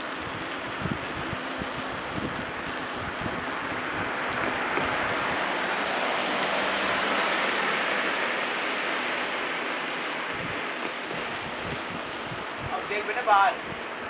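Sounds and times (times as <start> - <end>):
rushing air and road noise: 0.0 - 14.0.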